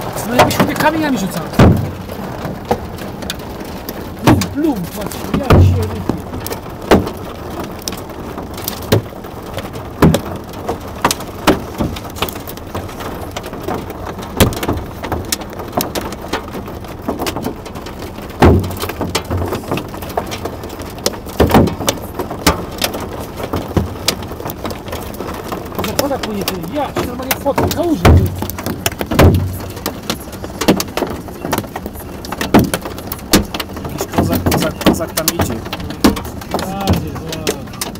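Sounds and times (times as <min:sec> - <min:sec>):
hailstones knocking: 0:00.0 - 0:37.9
heavy rain hissing on a road: 0:00.0 - 0:37.9.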